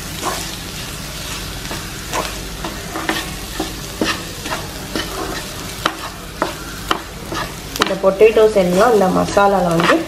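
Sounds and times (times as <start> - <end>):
food sizzling in a frying pan: 0.0 - 10.0
wooden spatula scraping pan: 0.2 - 0.6, 1.7 - 8.0, 8.6 - 10.0
spatula tapping pan: 1.6 - 10.0.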